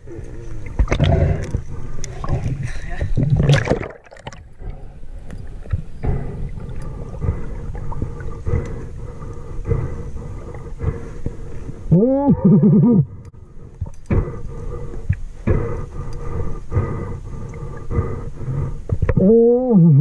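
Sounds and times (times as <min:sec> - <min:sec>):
muffled underwater rumbling: 0:00.0 - 0:20.0.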